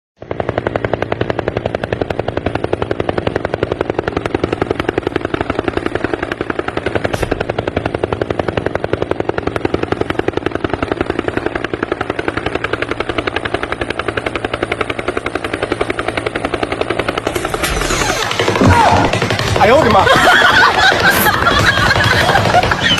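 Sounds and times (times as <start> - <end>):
helicopter rotor chop: 0.2 - 22.9.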